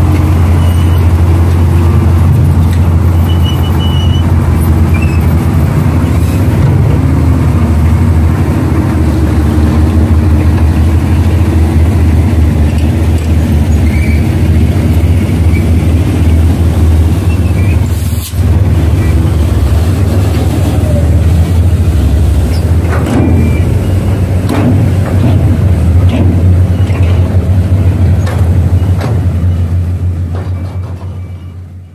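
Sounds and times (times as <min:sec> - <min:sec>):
heavy diesel engine droning: 0:00.0 - 0:31.9.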